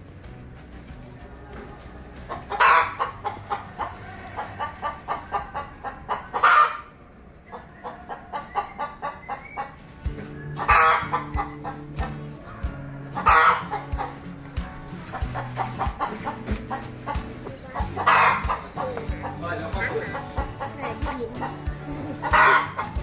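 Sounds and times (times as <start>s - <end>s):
chicken clucking and squawking: 1.8s - 23.0s.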